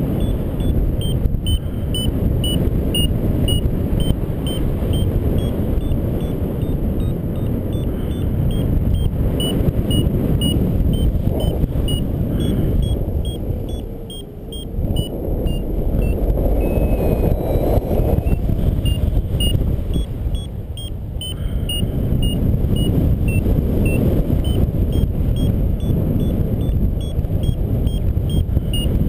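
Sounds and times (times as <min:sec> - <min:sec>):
variometer beeping high pips: 0:00.0 - 0:29.0
wind rushing over microphone: 0:00.0 - 0:29.0.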